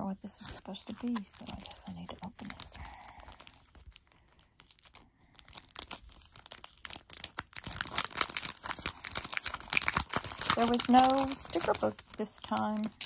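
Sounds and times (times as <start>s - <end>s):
packaging torn and crinkled: 0.4s - 13.0s.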